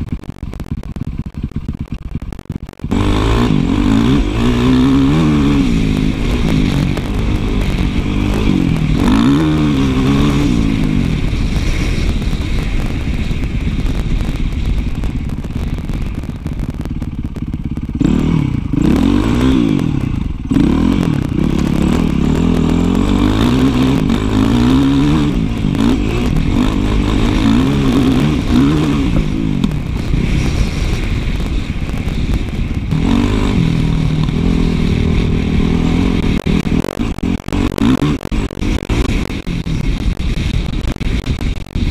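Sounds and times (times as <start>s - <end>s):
dirt bike engine revving: 2.8s - 41.9s.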